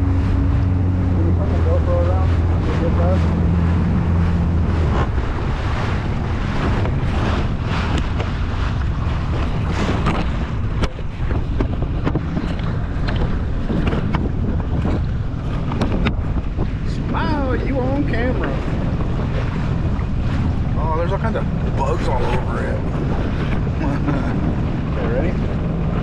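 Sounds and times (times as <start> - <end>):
low engine hum: 0.0 - 26.0
water splashing: 0.0 - 26.0
wind buffeting microphone: 0.0 - 26.0.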